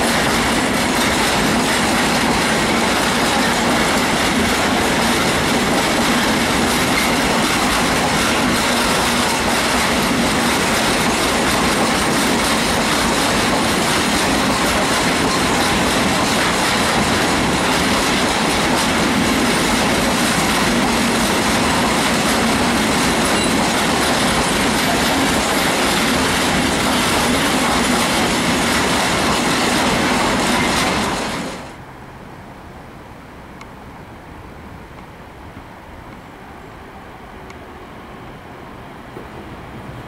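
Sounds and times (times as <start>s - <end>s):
freight train rumble and clatter: 0.0s - 32.0s, 34.0s - 40.0s.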